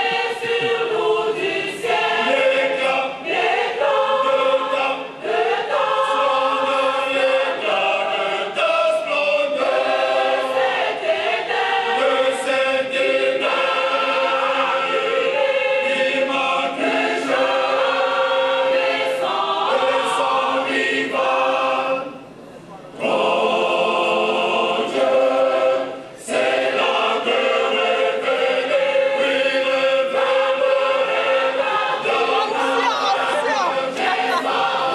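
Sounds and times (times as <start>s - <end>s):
women's choir singing a hymn: 0.0s - 22.2s, 23.0s - 34.9s.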